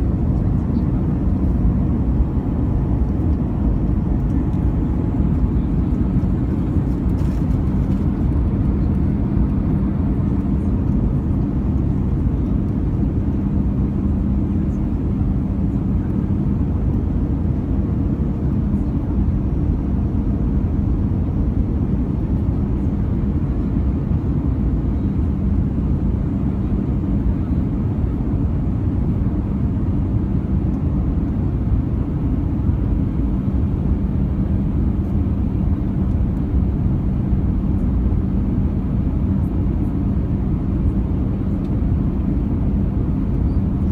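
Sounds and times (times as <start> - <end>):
constant low hum: 0.0 - 43.9
jet engine drone in cabin: 0.0 - 43.9.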